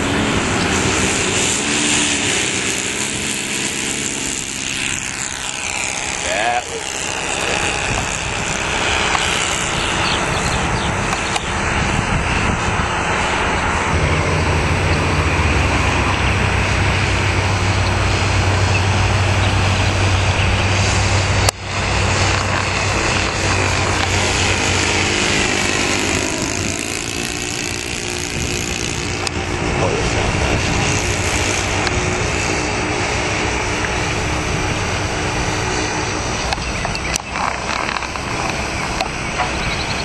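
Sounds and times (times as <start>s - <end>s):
model plane engines buzzing: 0.0s - 40.0s.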